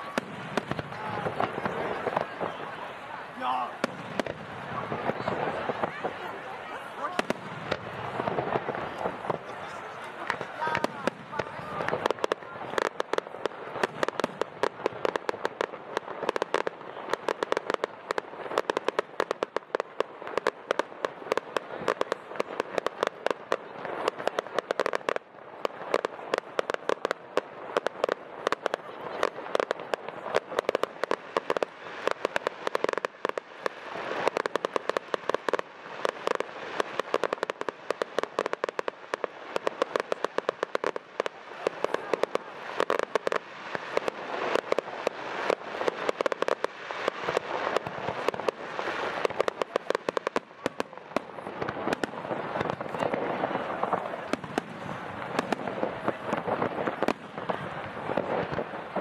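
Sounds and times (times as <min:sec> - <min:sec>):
fireworks crackling: 0:00.0 - 0:59.0.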